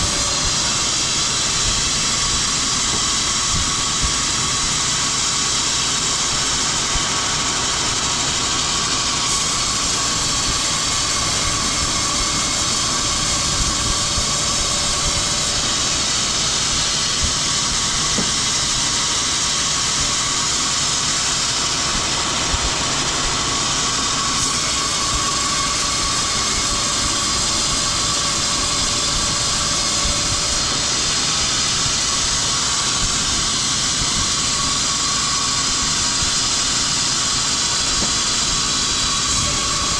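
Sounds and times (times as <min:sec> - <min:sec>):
woodworking machinery running: 0:00.0 - 0:39.9.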